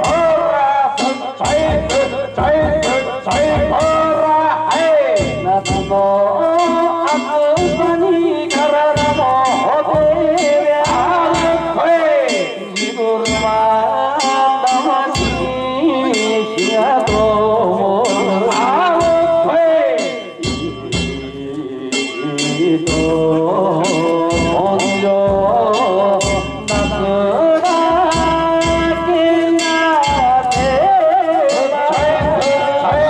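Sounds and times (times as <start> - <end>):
drums beating: 0.0 - 33.0
metal gongs beating: 0.0 - 33.0.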